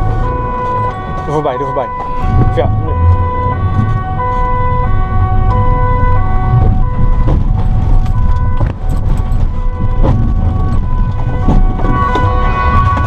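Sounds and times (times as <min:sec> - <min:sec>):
engine and road rumble: 0:00.0 - 0:13.0
two-tone police siren: 0:00.0 - 0:13.0.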